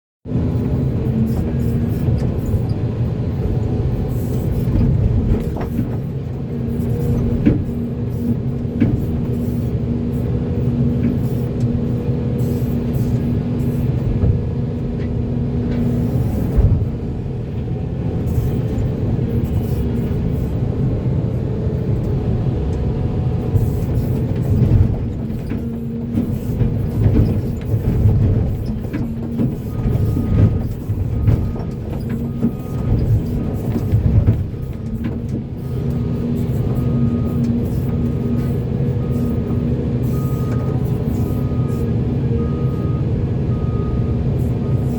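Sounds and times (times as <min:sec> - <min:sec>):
excavator diesel engine working: 0:00.3 - 0:44.9.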